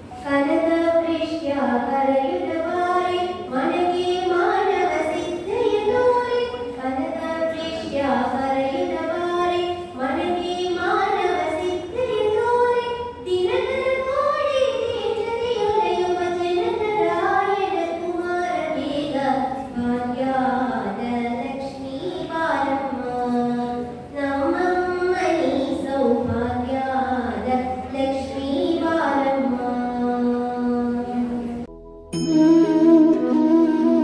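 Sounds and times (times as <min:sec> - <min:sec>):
woman singing into a microphone: 0:00.2 - 0:31.6.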